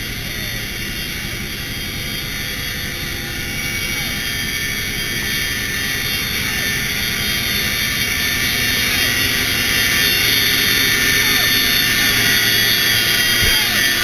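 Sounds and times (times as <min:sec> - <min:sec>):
helicopter turbine whine and rotor: 0:00.0 - 0:14.0.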